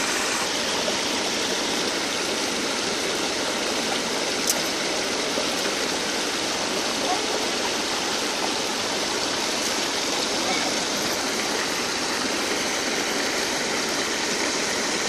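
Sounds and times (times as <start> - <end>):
river water over weir: 0.0 - 15.0.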